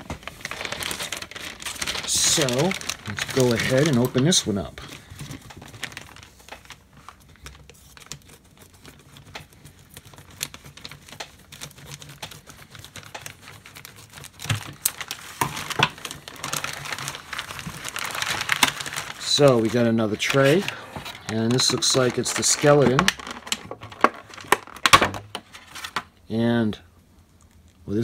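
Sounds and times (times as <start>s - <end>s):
plastic packaging crinkling: 0.0s - 26.2s.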